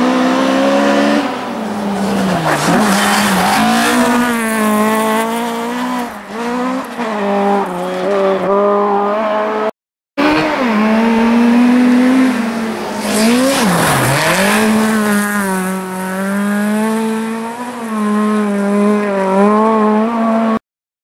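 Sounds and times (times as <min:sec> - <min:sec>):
rally car engine at high revs: 0:00.0 - 0:20.6.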